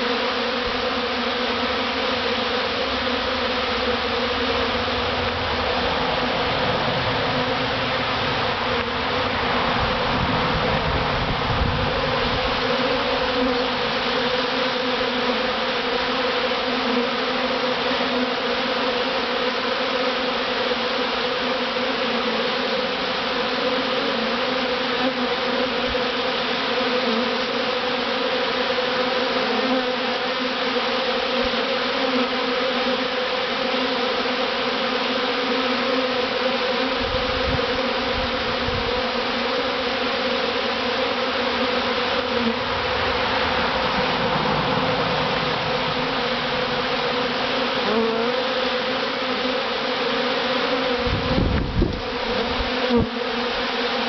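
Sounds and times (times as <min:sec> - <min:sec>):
honeybee swarm buzzing: 0:00.0 - 0:54.0.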